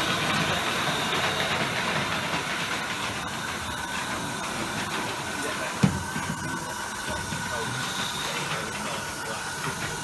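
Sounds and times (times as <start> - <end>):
model trains running: 0.0 - 10.0.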